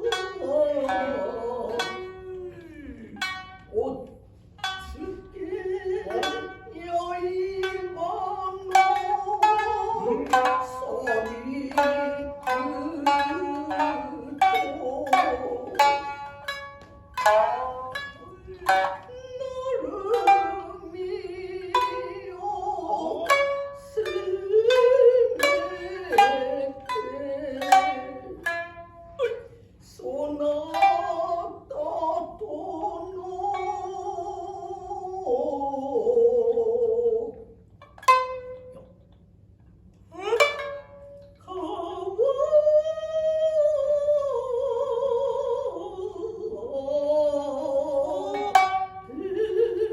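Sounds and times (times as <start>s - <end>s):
shamisen plucking: 0.0s - 49.9s.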